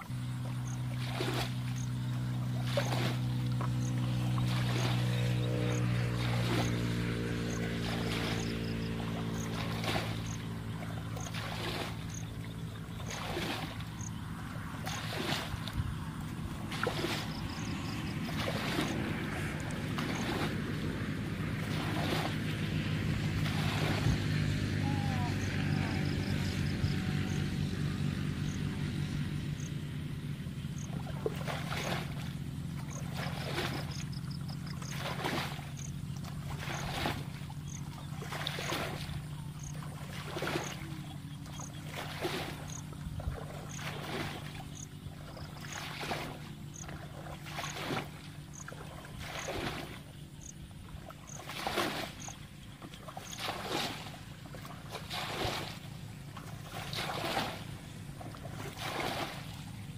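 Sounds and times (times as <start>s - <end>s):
water splashing from bucket: 0.0s - 27.8s, 30.7s - 59.9s
steady low hum: 0.0s - 59.9s.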